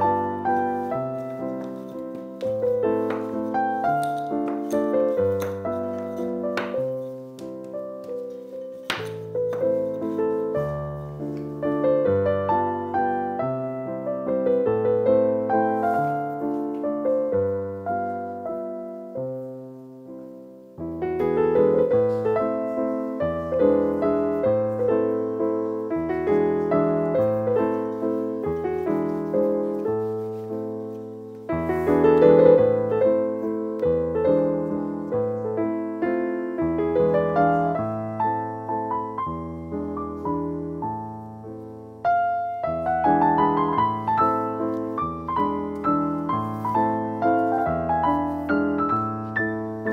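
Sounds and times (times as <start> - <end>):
piano music: 0.0 - 49.9.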